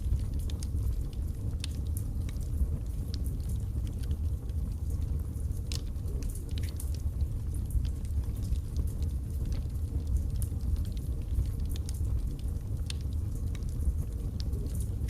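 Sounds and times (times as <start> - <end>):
low rumble of flame: 0.0 - 15.0
wood crackling and popping: 0.0 - 15.0.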